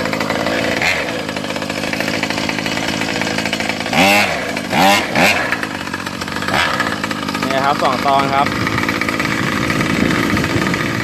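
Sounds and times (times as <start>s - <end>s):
small two-stroke engine buzzing: 0.0s - 11.0s.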